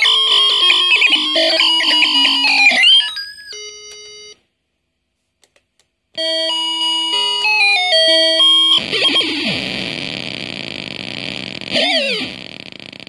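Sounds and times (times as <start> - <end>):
glitchy electronic toy tones: 0.0 - 4.3, 6.2 - 13.0.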